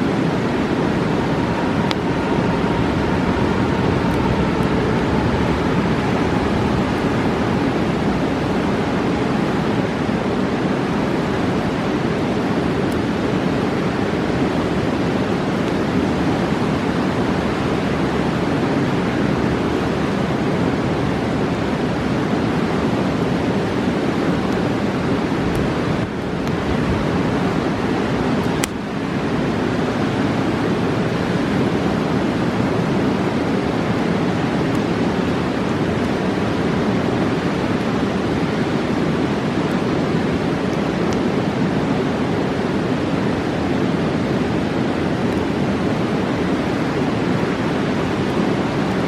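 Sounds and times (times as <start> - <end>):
roaring river rushing: 0.0 - 49.0.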